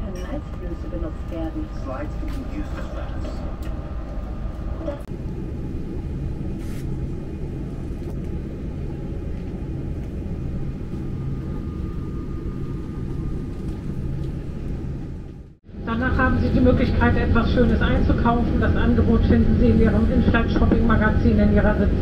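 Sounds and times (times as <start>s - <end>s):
aircraft cabin rumble: 0.0s - 22.0s
faint whine: 0.0s - 22.0s.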